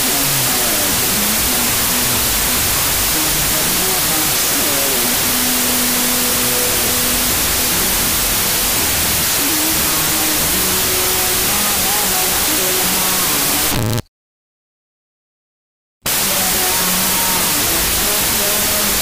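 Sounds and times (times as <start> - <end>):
steady hiss-like roar: 0.0 - 13.7, 16.1 - 19.0.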